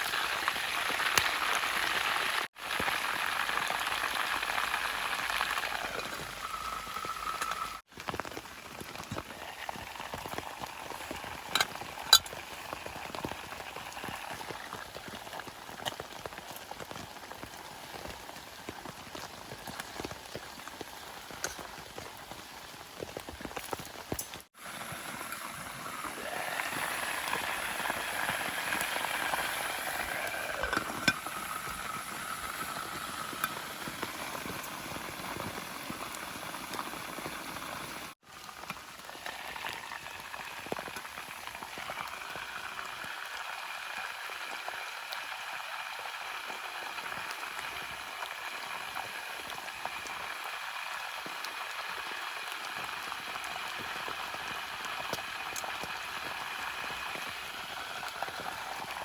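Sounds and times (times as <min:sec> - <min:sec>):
rain pattering on a tarp: 0:00.0 - 0:06.4, 0:07.8 - 0:30.6, 0:31.3 - 0:59.0.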